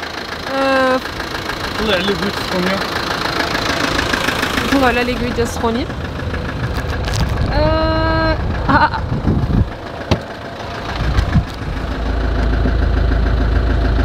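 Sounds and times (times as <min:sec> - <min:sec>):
engine running heard from cab: 0:00.0 - 0:14.0.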